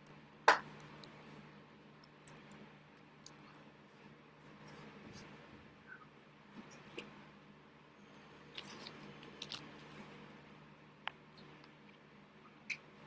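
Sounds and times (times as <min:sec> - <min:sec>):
low room tone hum: 0:00.0 - 0:13.0.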